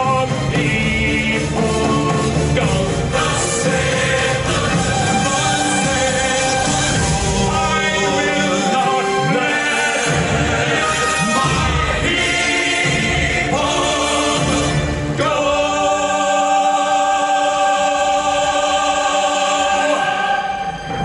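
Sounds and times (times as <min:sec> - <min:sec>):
dramatic choir and orchestra music: 0:00.0 - 0:21.0.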